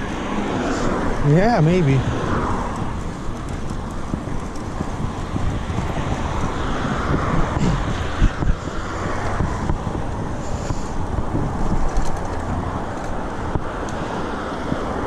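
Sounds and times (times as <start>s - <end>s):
cars swishing by: 0.0s - 15.0s
wind rumble on microphone: 0.0s - 15.0s.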